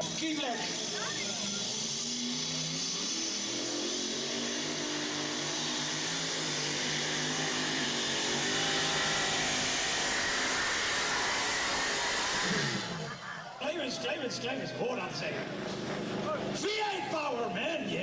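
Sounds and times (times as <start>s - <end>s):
truck diesel engine at high revs: 0.0s - 18.0s.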